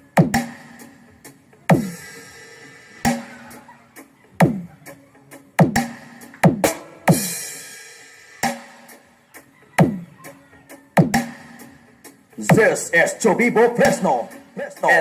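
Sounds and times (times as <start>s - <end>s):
dance remix over sound system: 0.0s - 15.0s.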